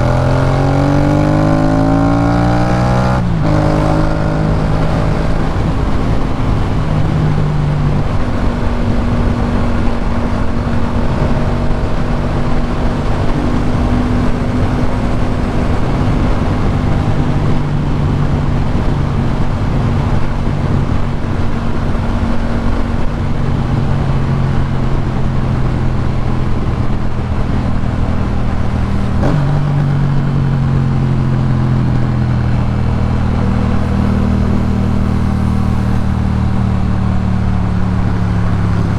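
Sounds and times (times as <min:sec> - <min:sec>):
motorcycle engine: 0:00.0 - 0:38.9
wind and road noise: 0:00.0 - 0:38.9.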